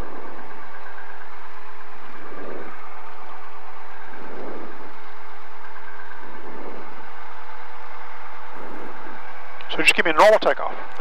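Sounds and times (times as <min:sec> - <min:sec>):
airplane engine whine: 0:00.0 - 0:11.0.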